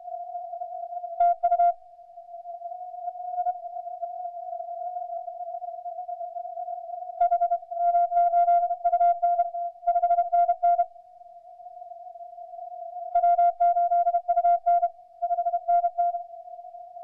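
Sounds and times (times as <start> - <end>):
steady single-pitch radio tone: 0.0 - 11.0, 12.4 - 17.0.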